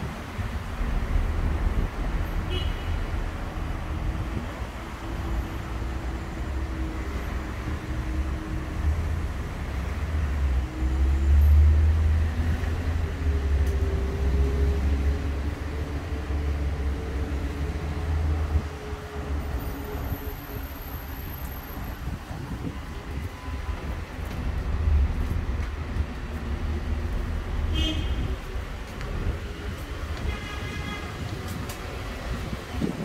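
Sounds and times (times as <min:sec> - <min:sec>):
traffic engine rumble: 0:00.0 - 0:33.0.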